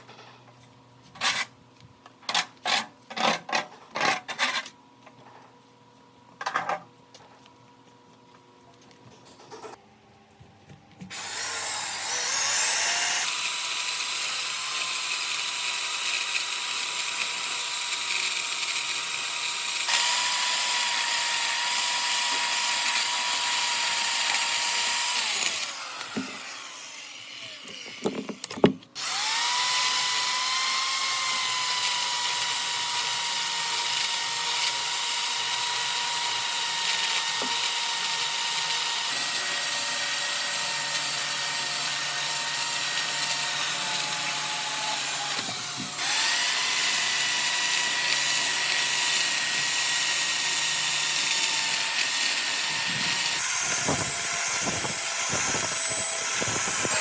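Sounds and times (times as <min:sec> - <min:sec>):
power tool motor whining: 0:11.1 - 0:57.0.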